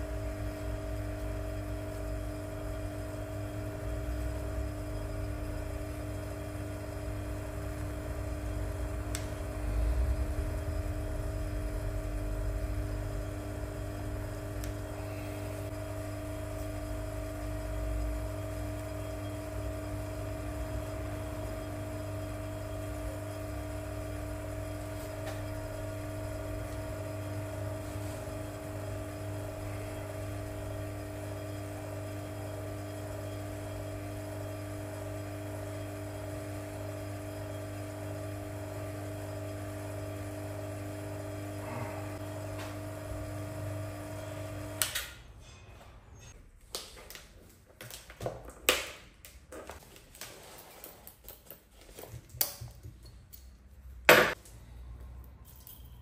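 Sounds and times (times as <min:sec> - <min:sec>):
vacuum pump humming: 0:00.0 - 0:45.2.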